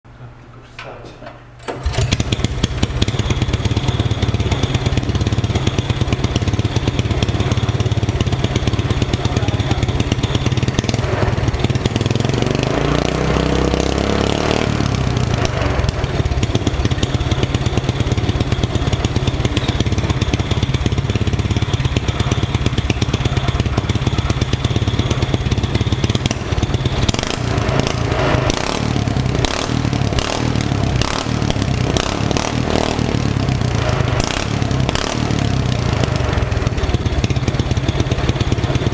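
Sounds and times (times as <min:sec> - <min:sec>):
small petrol engine running: 0:01.7 - 0:38.9.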